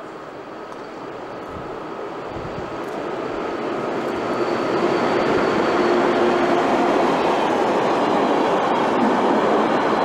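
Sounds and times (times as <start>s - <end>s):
train passing at speed: 0.0s - 10.0s
wheels rushing on rail: 0.0s - 10.0s.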